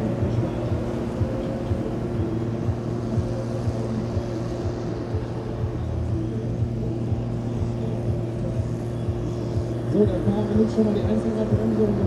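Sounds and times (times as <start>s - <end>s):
diesel engines idling: 0.0s - 12.0s.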